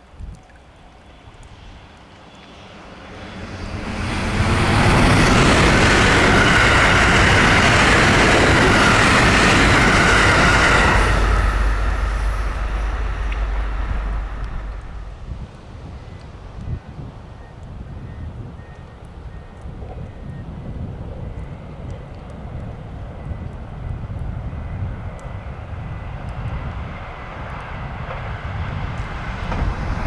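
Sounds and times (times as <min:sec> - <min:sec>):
train passing: 0:00.7 - 0:19.4, 0:21.1 - 0:30.0.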